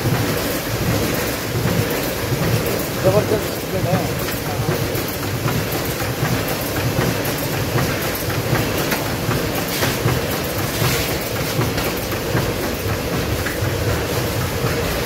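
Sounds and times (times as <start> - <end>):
packing machine running: 0.0 - 15.0.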